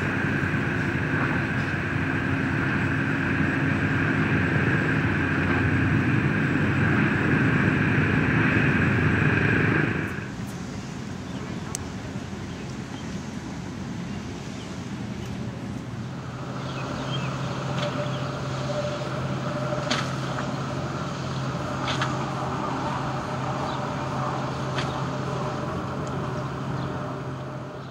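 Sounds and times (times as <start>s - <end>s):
traffic hum: 0.0s - 27.9s.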